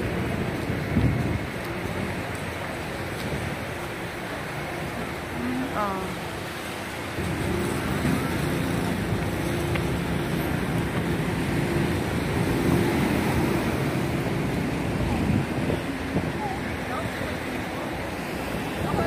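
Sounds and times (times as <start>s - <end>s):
hum of vehicle engines: 0.0s - 19.0s
wind rumbling on microphone: 0.0s - 19.0s.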